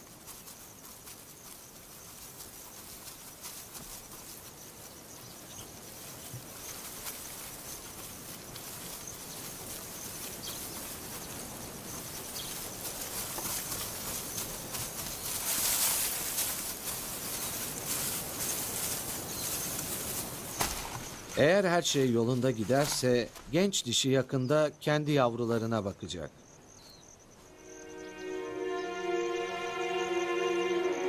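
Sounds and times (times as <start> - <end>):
high insect tone: 0.0 - 31.0.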